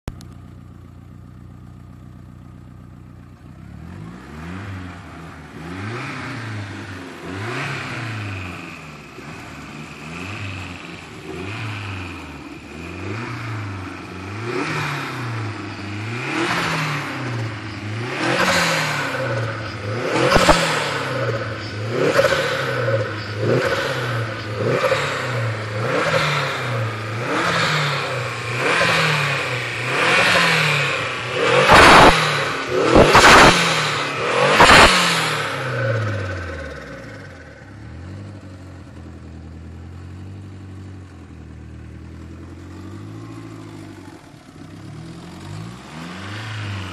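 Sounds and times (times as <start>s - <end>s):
car engine revving: 3.4s - 46.9s.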